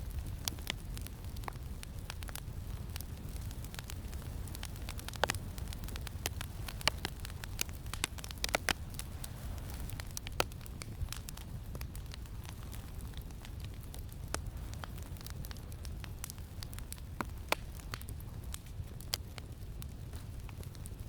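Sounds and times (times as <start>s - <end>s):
campfire crackling and popping: 0.0s - 21.0s
low rumble of wind: 0.0s - 21.0s.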